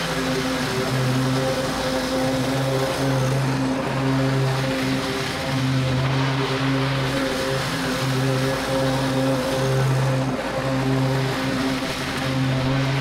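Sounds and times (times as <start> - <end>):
lawn mower engine cutting grass: 0.0 - 13.0.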